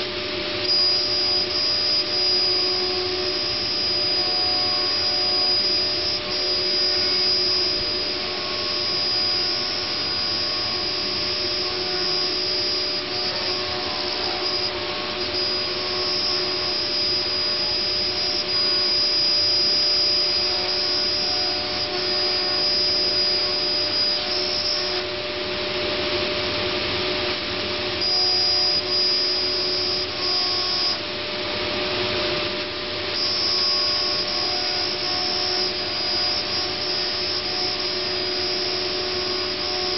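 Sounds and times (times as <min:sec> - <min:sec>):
cnc router running with whine: 0:00.0 - 0:39.9.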